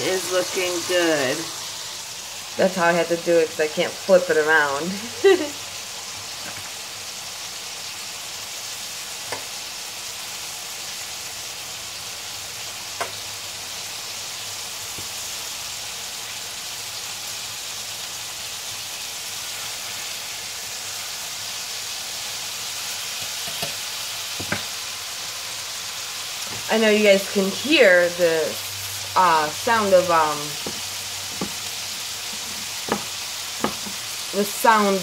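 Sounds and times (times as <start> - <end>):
chicken sizzling in a pan: 0.0 - 35.0.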